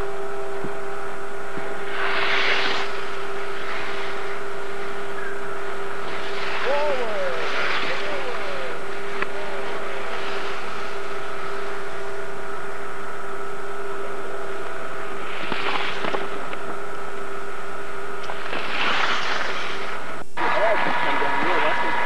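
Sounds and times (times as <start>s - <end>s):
constant low hum: 0.0s - 22.0s
steady tape hiss: 0.0s - 22.0s.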